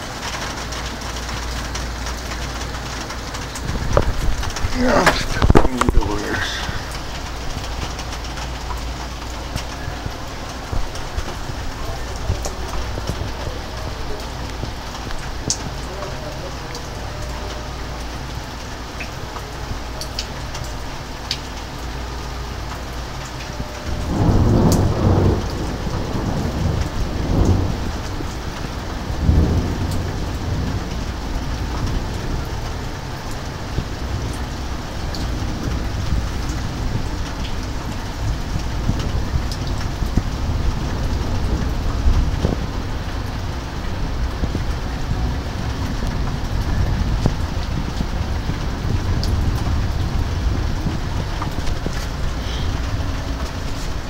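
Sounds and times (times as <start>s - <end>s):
steady rain: 0.0s - 54.0s
thunder rolling: 2.2s - 17.4s, 23.5s - 54.0s.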